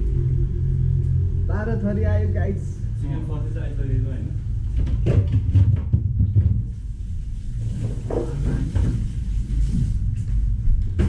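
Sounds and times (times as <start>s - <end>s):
kitchen background rumble: 0.0s - 11.0s.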